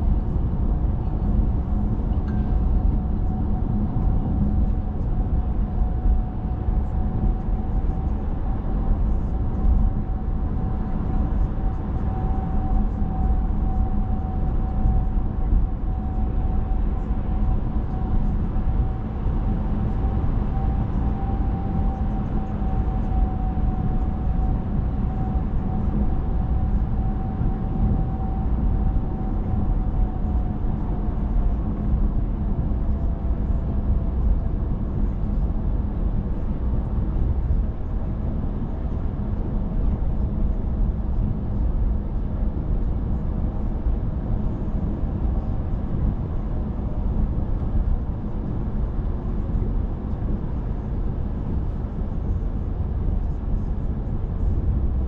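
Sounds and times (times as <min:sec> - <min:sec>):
car engine and road rumble: 0:00.0 - 0:55.0
faint whine: 0:00.0 - 0:55.0.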